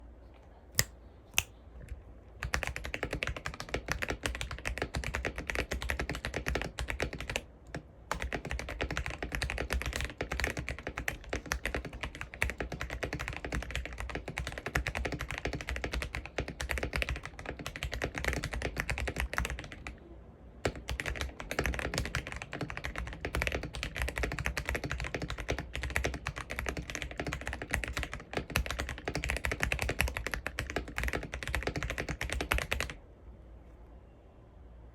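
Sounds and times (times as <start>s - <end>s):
mechanical keyboard typing: 2.4s - 20.0s, 20.6s - 33.0s.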